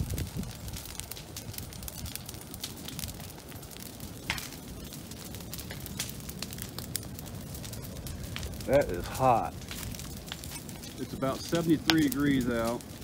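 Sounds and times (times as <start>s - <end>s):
bonfire crackling and popping: 0.0s - 13.0s
fire low rumble: 0.0s - 13.0s.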